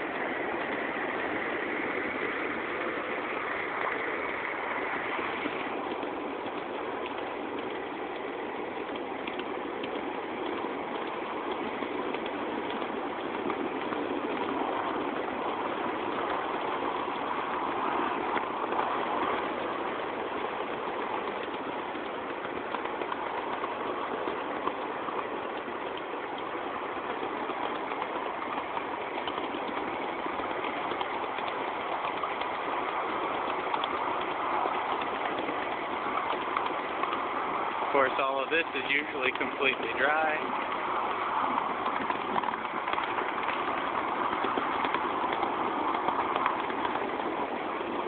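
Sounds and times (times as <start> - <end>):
miniature train running on track: 0.0 - 48.0.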